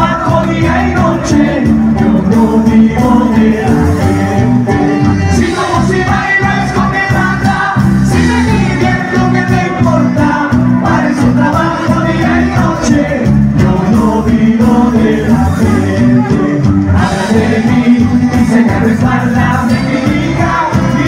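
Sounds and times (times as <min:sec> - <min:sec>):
live band playing latin dance music: 0:00.0 - 0:21.0.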